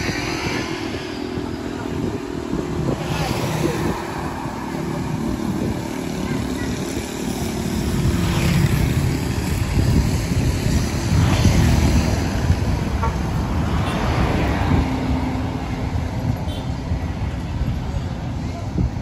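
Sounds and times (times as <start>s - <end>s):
passing cars and motorcycles: 0.0s - 19.0s.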